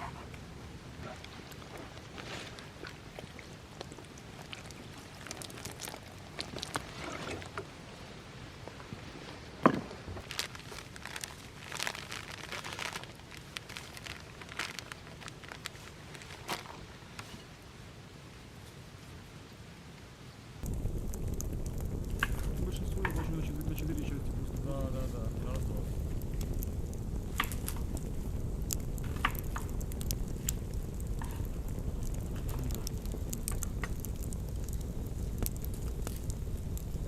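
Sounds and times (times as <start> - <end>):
campfire crackling and popping: 0.0 - 17.3, 20.6 - 37.0
low steady hiss: 0.0 - 37.0.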